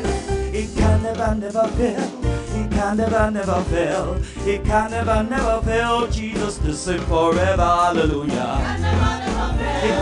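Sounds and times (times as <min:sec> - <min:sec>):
band with bass and drums: 0:00.0 - 0:10.0.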